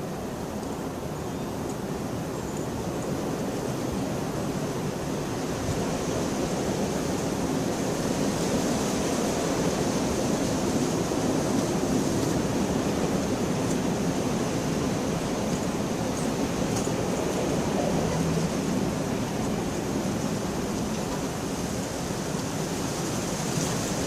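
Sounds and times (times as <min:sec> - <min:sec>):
heavy rainfall: 0:01.8 - 0:24.0.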